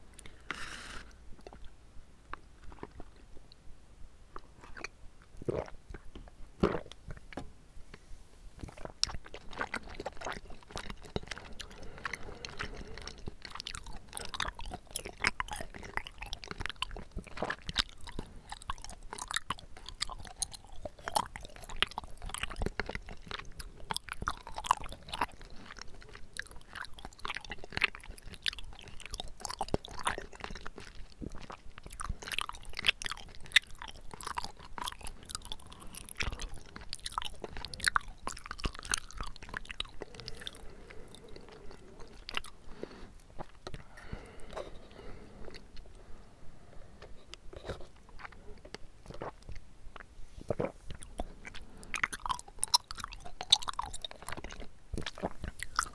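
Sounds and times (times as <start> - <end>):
chewing with wet mouth clicks: 4.3 - 7.4, 8.6 - 46.1, 47.0 - 55.9.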